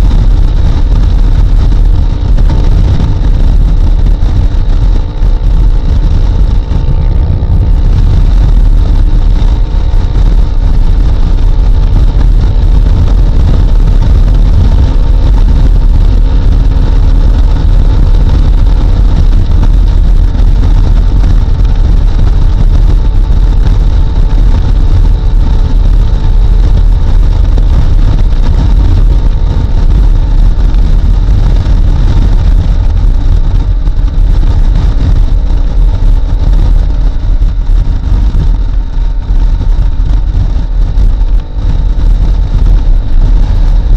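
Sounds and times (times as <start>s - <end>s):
motorcycle engine running: 0.0s - 43.9s
wind rush on microphone: 0.0s - 43.9s.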